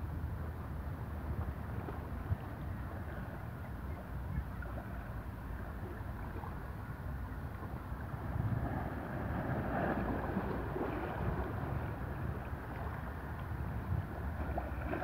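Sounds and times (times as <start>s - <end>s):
wind rumble on microphone: 0.0s - 15.0s
small waves lapping on rocks: 1.2s - 15.0s.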